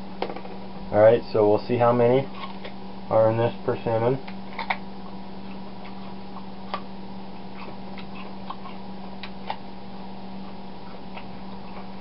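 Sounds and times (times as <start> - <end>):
steady kitchen hum: 0.0 - 12.0.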